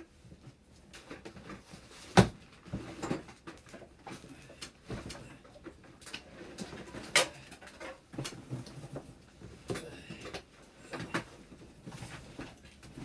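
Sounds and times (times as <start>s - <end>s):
rustling clutter: 0.1s - 13.0s.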